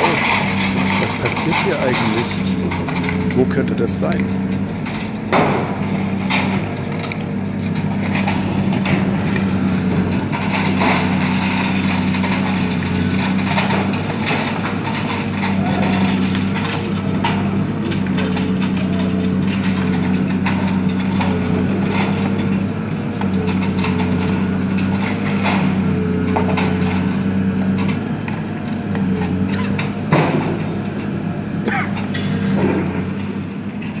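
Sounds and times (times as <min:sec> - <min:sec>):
concrete cracking and crunching: 0:00.0 - 0:34.0
excavator diesel engine running: 0:00.0 - 0:34.0.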